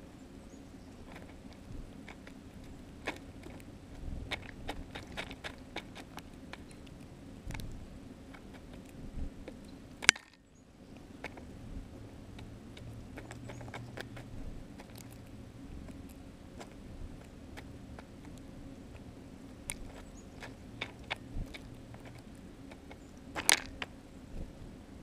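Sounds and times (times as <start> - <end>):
bird pecking in snow: 0.0 - 10.2, 10.8 - 25.0.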